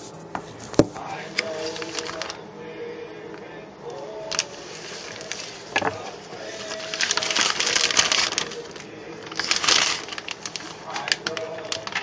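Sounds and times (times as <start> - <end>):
plastic bag crinkling: 0.8 - 2.4, 3.9 - 12.0.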